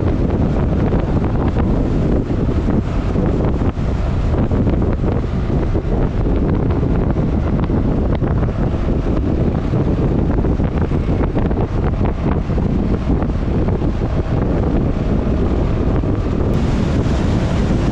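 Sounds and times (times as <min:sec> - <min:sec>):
scooter running noise: 0:00.0 - 0:17.9
wind rushing over microphone: 0:00.0 - 0:17.9.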